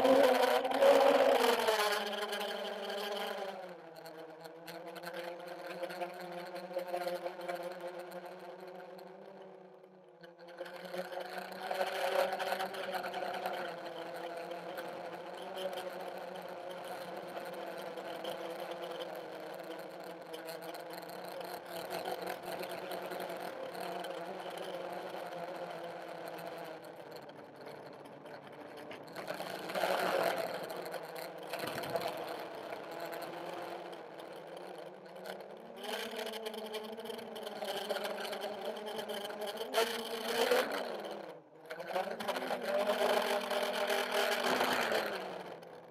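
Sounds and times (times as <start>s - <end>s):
quadcopter motors whirring: 0.0s - 9.2s, 10.6s - 45.9s.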